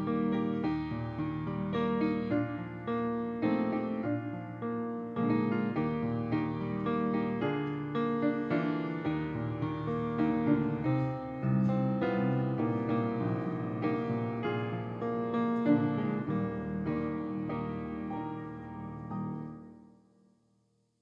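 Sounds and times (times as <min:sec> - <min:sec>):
upright piano playing chords: 0:00.0 - 0:20.0.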